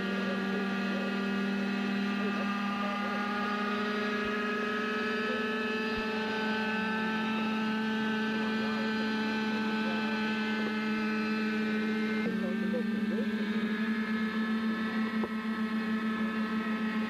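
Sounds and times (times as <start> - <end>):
model helicopter engines buzzing: 0.0 - 17.0.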